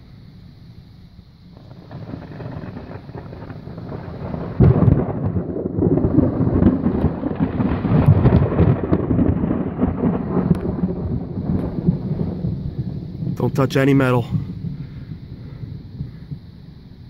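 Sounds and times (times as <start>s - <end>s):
rolling thunder rumble: 1.4s - 17.0s
thunder crack: 1.5s - 17.0s.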